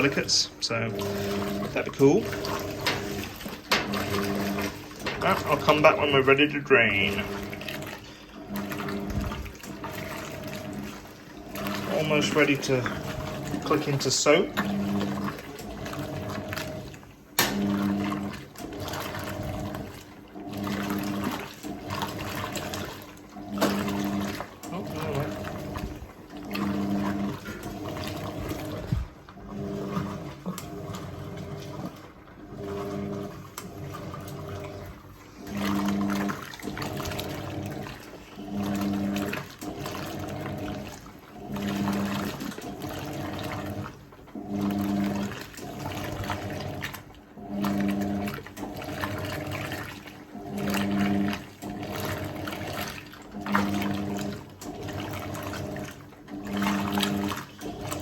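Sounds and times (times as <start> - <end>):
washing machine motor hum: 0.0 - 58.0
water sloshing in tub: 0.0 - 58.0.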